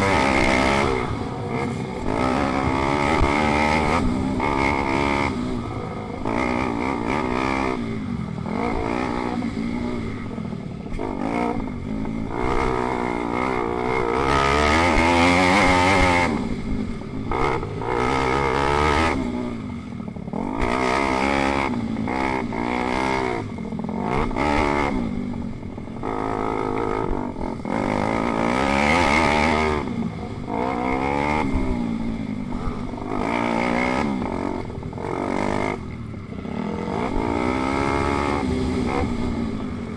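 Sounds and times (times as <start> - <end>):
pit bike engines revving: 0.0 - 39.9.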